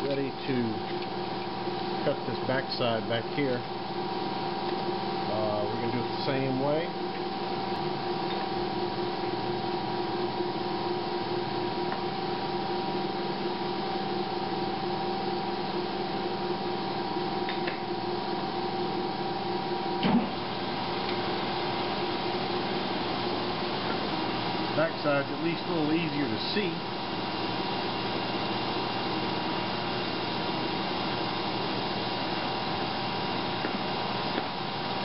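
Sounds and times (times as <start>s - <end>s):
milling machine hum: 0.0s - 35.0s.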